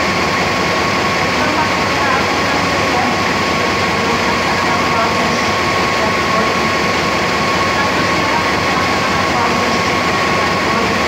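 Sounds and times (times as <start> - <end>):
diesel train engines idling: 0.0 - 11.0.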